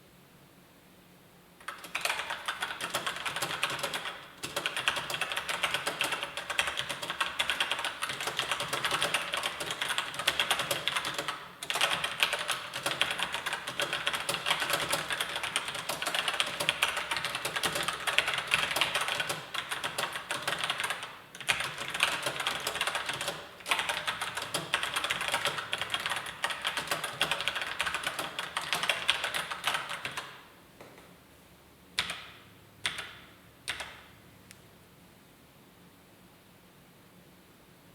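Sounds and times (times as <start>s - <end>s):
mechanical keyboard typing: 1.6s - 30.4s, 32.0s - 34.1s.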